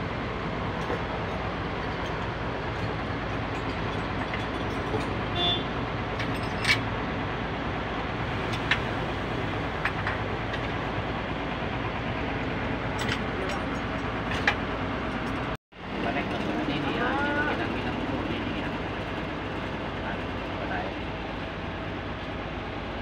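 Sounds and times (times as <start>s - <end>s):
traffic engines droning: 0.0s - 23.0s.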